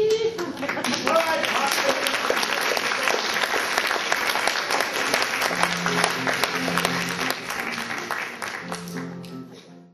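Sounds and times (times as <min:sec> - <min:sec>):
audience applauding: 0:00.5 - 0:09.5.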